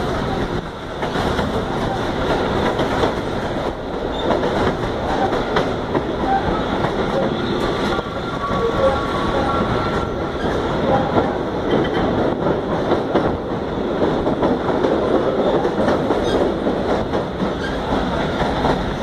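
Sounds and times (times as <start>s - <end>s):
rail clicks: 0.0s - 19.0s
train wheels rumbling on rails: 0.0s - 19.0s.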